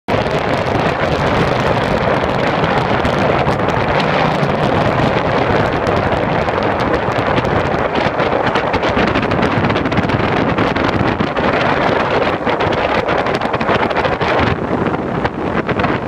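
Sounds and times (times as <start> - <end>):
wind rushing over microphone: 0.1 - 16.0.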